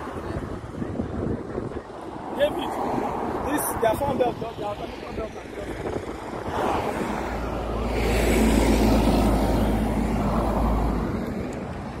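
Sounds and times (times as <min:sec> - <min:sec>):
car passing on highway: 0:00.0 - 0:12.0.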